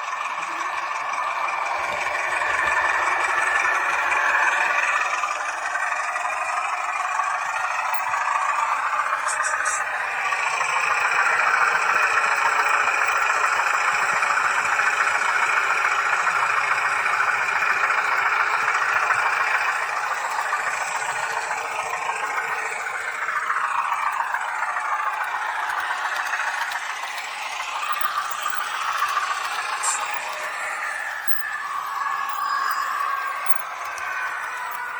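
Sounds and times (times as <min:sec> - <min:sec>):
model train whirring rattle: 0:00.0 - 0:34.9.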